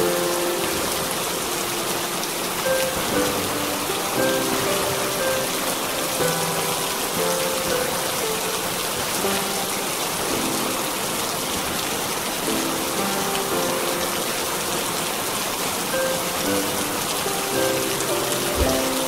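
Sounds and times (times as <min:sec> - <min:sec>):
slow soft melody: 0:00.0 - 0:19.0
steady rain: 0:00.0 - 0:19.0.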